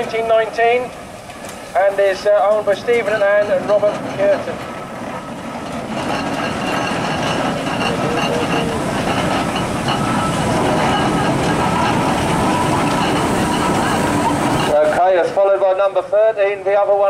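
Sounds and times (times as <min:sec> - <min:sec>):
steam engine running: 0:00.0 - 0:15.4.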